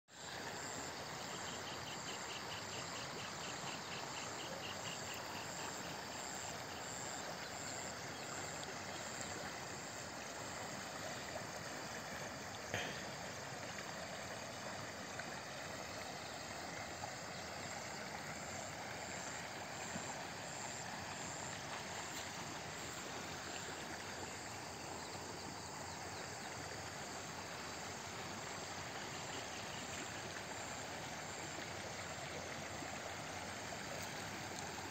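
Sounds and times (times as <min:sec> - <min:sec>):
flowing river water: 0:00.1 - 0:34.9
insects trilling: 0:00.2 - 0:34.9.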